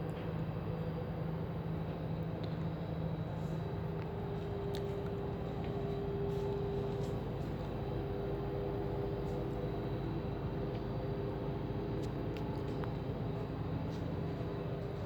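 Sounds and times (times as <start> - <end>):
ship machinery low rumble: 0.0 - 15.0
steady machinery hum: 0.0 - 15.0.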